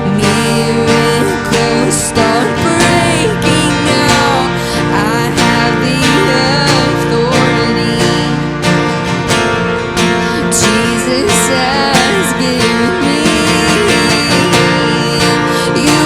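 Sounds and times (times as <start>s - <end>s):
strummed acoustic guitar: 0.0s - 16.0s
worship band music: 0.0s - 16.0s.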